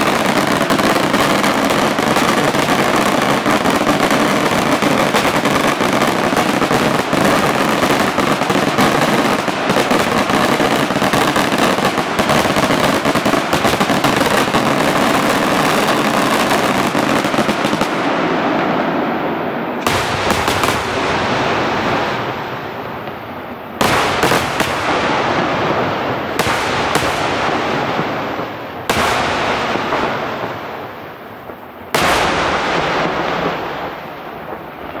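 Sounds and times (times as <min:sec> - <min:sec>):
fireworks bangs and crackling: 0:00.0 - 0:35.0
heavy firework booms echoing: 0:00.0 - 0:35.0.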